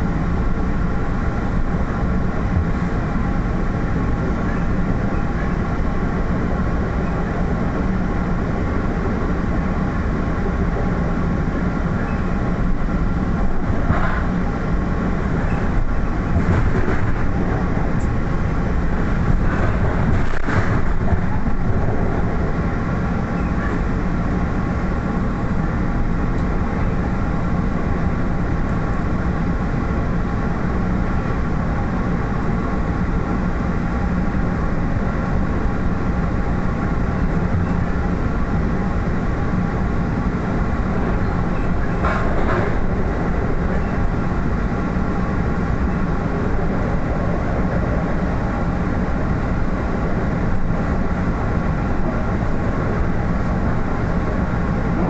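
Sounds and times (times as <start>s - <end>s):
steady tonal hum: 0.0s - 55.0s
train rumbling along track: 0.0s - 55.0s.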